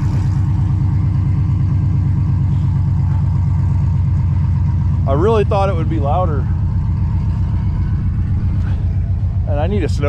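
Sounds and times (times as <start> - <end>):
truck engine idling unmuffled: 0.0 - 10.0.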